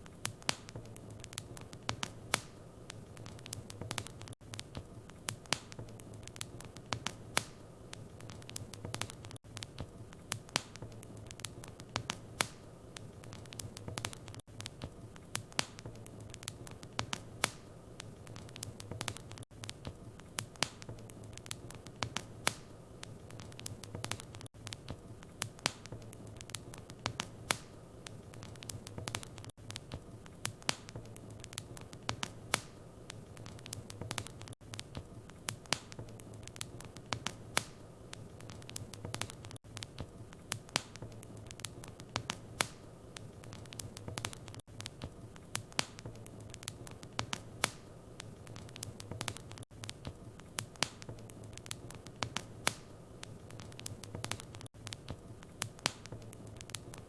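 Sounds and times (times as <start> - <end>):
fire pops and snaps: 0.0 - 57.0
wood fire crackling: 0.0 - 57.0.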